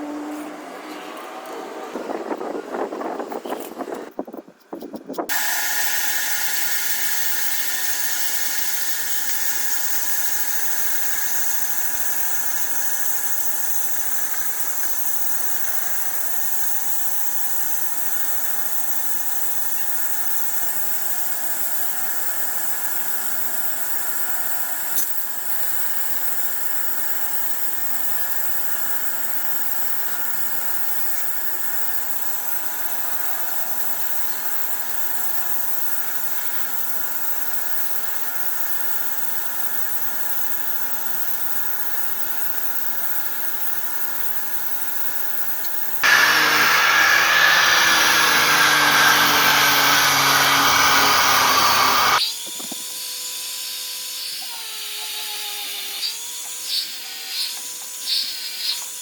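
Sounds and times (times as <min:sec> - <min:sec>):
power tool motor running: 0:05.3 - 0:59.0.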